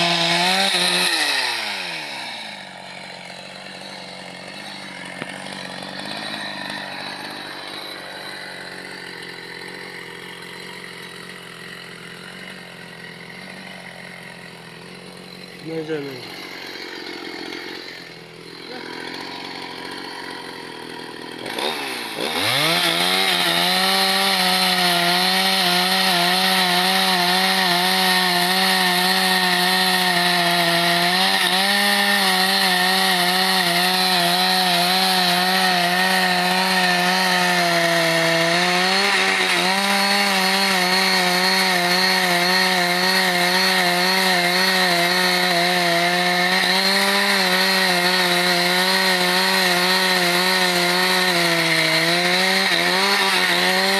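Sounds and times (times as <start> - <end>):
chainsaw sawing wood: 0.0 - 53.9.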